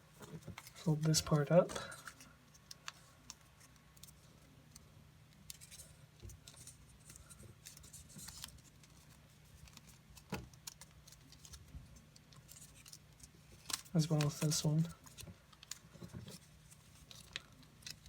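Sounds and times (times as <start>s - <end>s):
paper rustling and crinkling: 0.1s - 4.8s, 5.4s - 18.0s.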